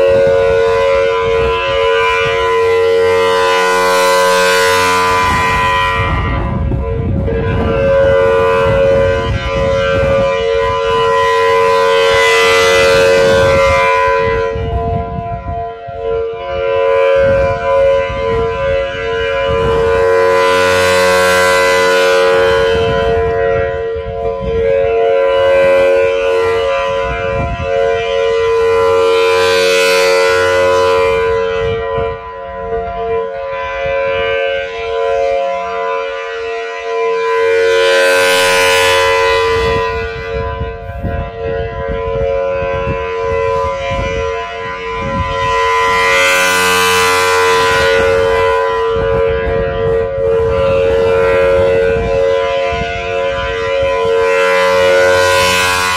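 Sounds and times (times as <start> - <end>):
warning siren steady tone: 0.0 - 55.9.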